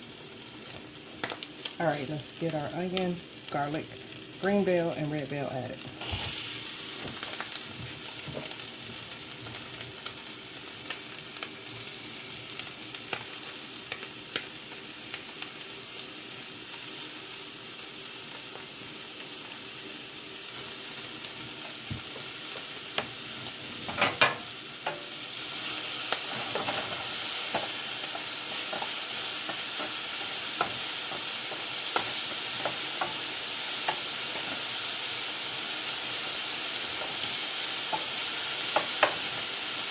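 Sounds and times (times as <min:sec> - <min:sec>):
vegetables and sausage sizzling: 0:00.0 - 0:39.9.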